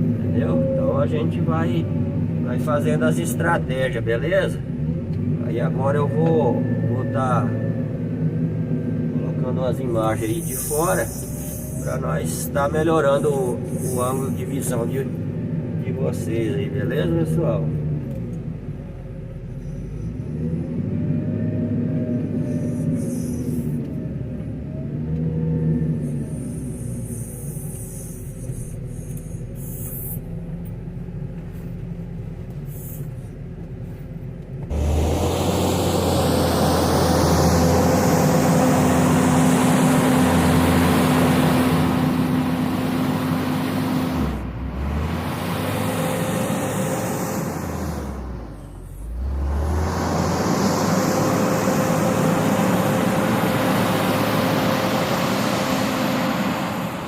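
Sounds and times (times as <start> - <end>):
wheel loader diesel engine revving: 0.0 - 57.0.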